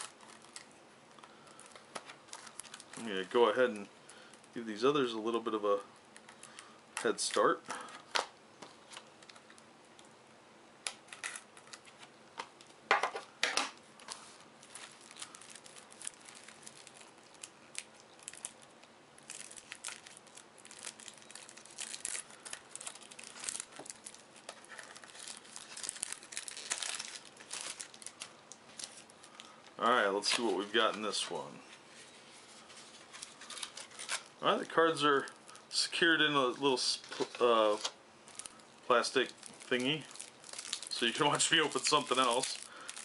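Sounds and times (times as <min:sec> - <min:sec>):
cellophane crinkling and tearing: 0:00.0 - 0:04.6, 0:10.9 - 0:12.7, 0:13.6 - 0:36.0, 0:37.0 - 0:43.0.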